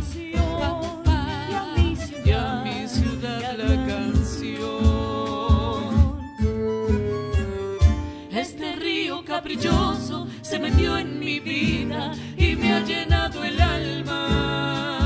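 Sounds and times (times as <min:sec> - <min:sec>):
man and woman singing: 0:00.0 - 0:06.3, 0:08.3 - 0:15.0
cajon beat: 0:00.0 - 0:08.2, 0:09.6 - 0:15.0
bandoneon: 0:00.0 - 0:08.6, 0:09.5 - 0:15.0
acoustic guitar: 0:00.0 - 0:15.0.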